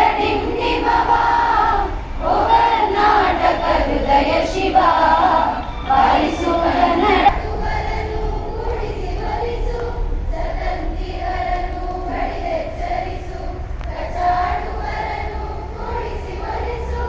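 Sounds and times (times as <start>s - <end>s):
crowd of women singing: 0.0s - 17.0s
steady low rumble: 0.0s - 17.0s.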